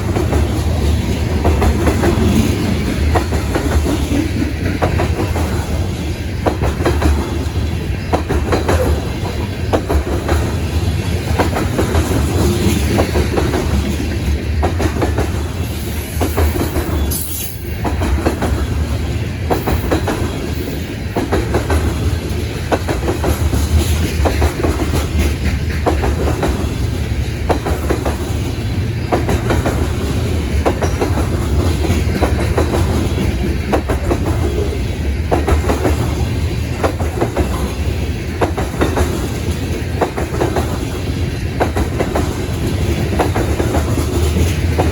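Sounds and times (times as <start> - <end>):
train rumbling past: 0.0 - 44.9
wheels clacking over rail joints: 0.0 - 44.9.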